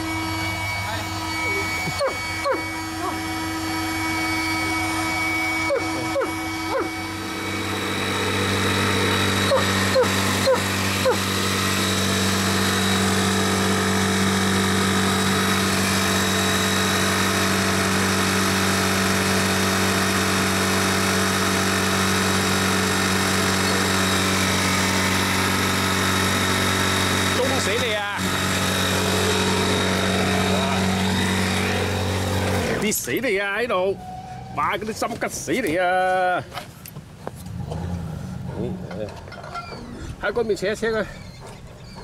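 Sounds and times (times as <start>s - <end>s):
engine humming: 0.0s - 42.0s.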